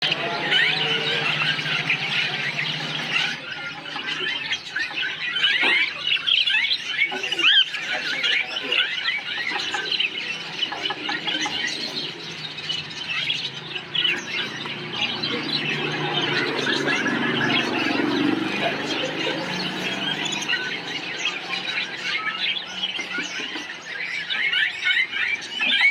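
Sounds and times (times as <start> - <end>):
parakeets chirping and squawking: 0.0 - 25.9.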